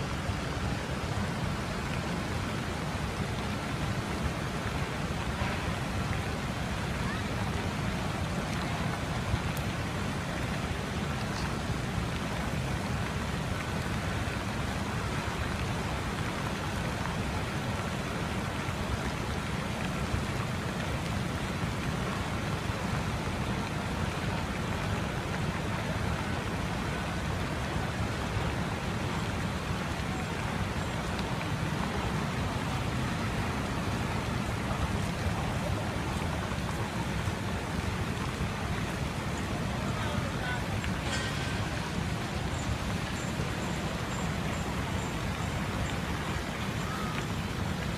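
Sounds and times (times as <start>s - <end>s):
fountain water rushing: 0.0s - 47.9s.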